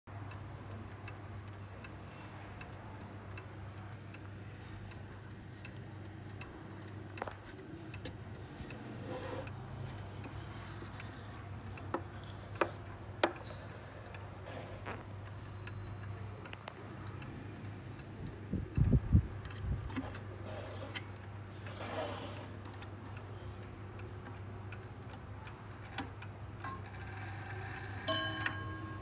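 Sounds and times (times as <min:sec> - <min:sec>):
clock ticking: 0:00.1 - 0:29.0.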